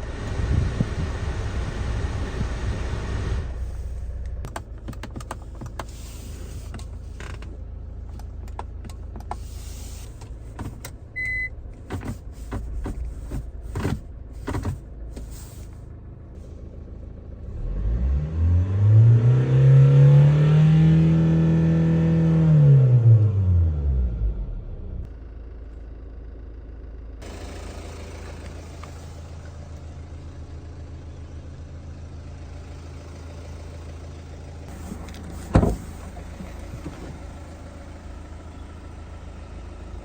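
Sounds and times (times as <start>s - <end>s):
diesel engine revving: 0.0s - 4.6s, 9.2s - 25.1s, 27.2s - 40.0s.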